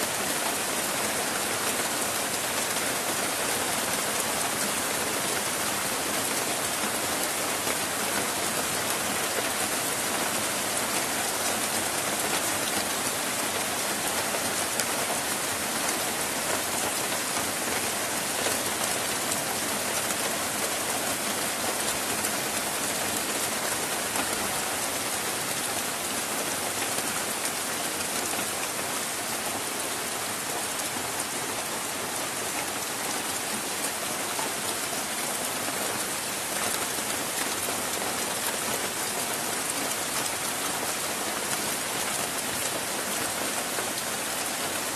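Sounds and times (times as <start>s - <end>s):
heavy rain on trees: 0.0s - 44.9s.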